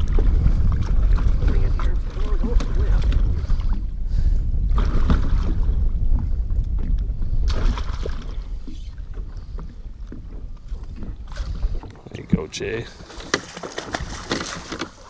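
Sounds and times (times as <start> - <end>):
water splashing and sloshing: 0.0 - 15.0
wind rumble on microphone: 0.0 - 15.0.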